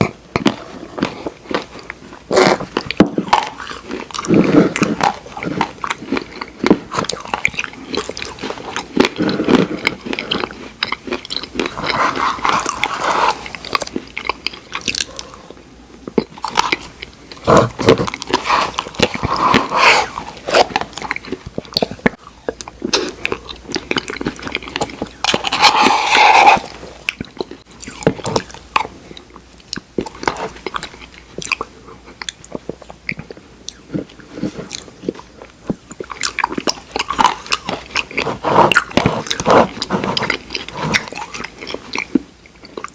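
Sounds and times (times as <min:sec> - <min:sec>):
chewing crunchy cookie: 0:00.0 - 0:42.9.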